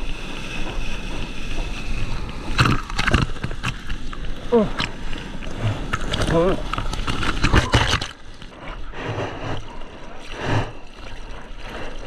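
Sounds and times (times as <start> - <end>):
water lapping against bodyboard: 0.0 - 12.0.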